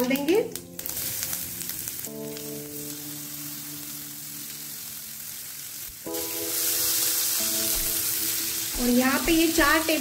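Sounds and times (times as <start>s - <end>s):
background music chords: 0.0s - 10.0s
hot oil sizzling in a pan: 0.0s - 10.0s.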